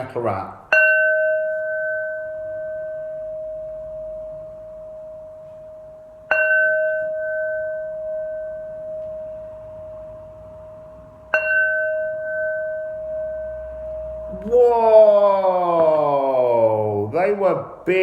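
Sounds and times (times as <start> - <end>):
ritual bell ringing: 0.7 - 16.7.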